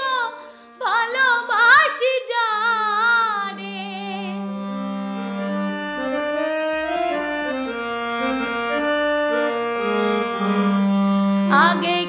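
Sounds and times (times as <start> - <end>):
instrumental song melody: 0.0 - 12.0.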